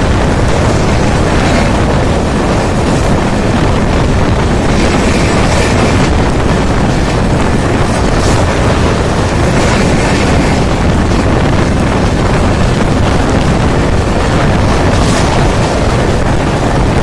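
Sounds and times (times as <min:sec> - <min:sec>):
train running at high speed: 0:00.0 - 0:17.0
wind buffeting microphone: 0:00.0 - 0:17.0.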